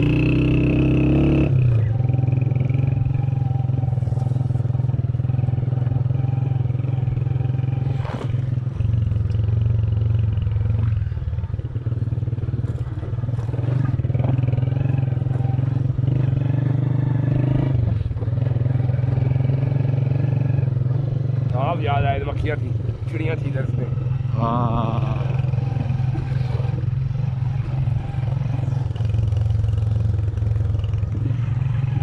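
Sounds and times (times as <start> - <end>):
vehicle engine running: 1.0 - 32.0.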